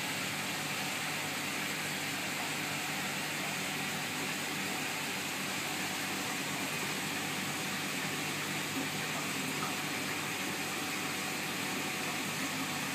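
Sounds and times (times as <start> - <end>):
aquarium water circulation hiss: 0.0 - 12.9.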